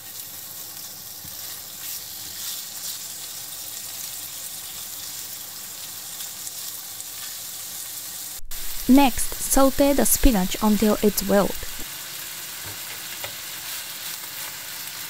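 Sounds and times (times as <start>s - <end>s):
fish sizzling in a frying pan: 0.0s - 8.9s, 11.8s - 15.0s.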